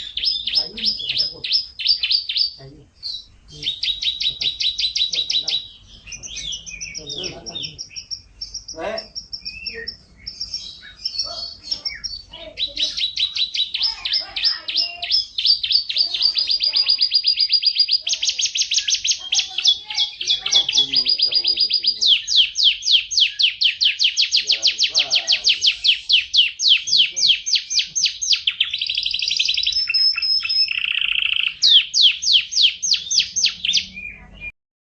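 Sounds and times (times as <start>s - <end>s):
canary singing fast trills: 0.0s - 34.5s.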